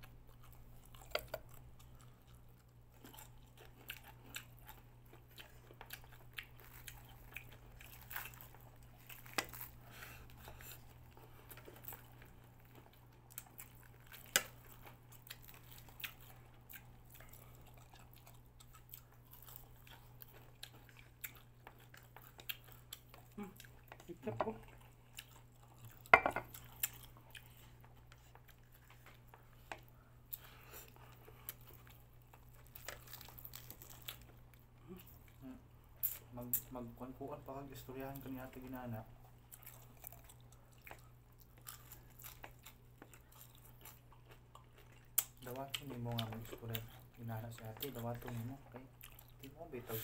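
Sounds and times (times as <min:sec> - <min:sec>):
crunchy chewing of fried chicken: 0:00.0 - 0:50.0.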